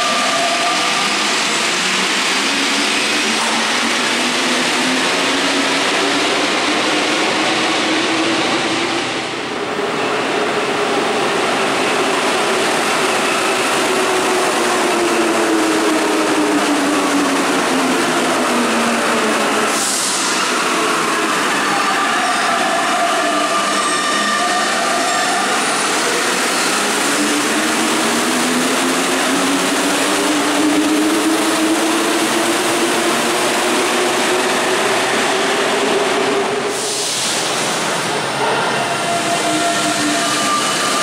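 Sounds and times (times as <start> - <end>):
train braking: 0.0 - 35.8, 36.4 - 41.0.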